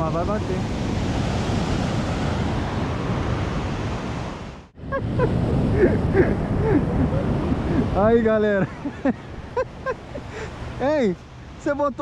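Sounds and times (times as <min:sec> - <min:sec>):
wind buffeting microphone: 0:00.0 - 0:11.6
ocean surf breaking: 0:00.0 - 0:12.0.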